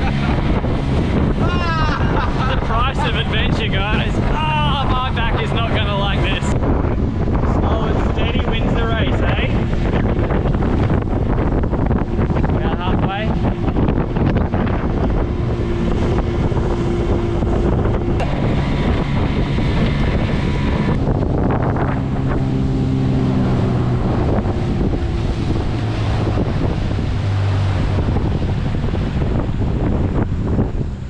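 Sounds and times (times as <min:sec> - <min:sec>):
outboard motor running: 0:00.0 - 0:31.0
water rushing past hull: 0:00.0 - 0:31.0
wind buffeting microphone: 0:00.0 - 0:31.0.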